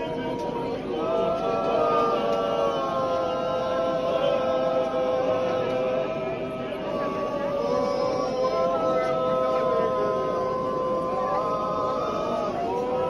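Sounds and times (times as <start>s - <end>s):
congregation singing: 0.0s - 13.0s.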